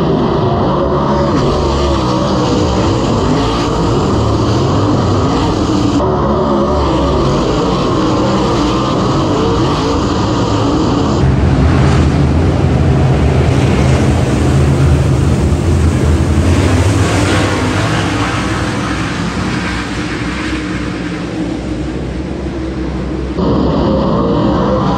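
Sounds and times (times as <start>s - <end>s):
race car engines revving: 0.0s - 24.9s.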